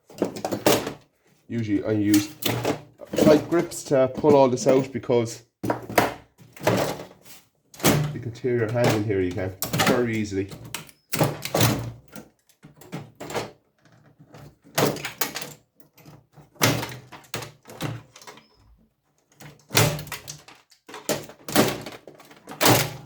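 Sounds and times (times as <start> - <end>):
metal casing knocks and rattles: 0.0 - 18.6, 19.2 - 23.0.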